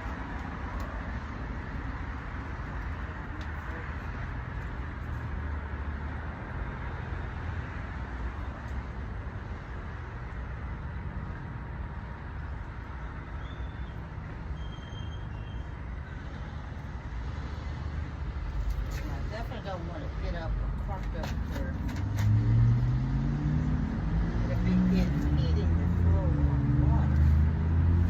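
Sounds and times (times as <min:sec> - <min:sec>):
rushing outdoor noise: 0:00.0 - 0:28.0.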